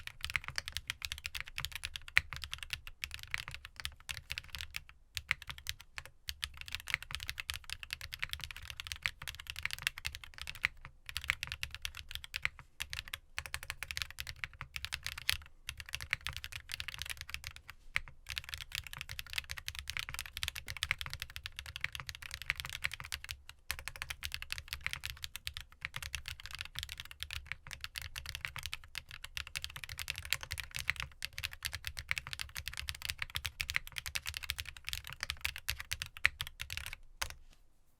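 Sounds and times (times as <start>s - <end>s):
fast mechanical keyboard typing: 0.0s - 17.6s, 18.3s - 37.4s.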